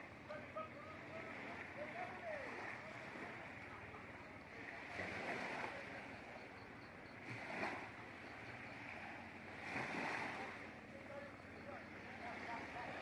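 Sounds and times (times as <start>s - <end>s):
waves washing on rocky shore: 0.0s - 6.4s, 7.2s - 13.0s.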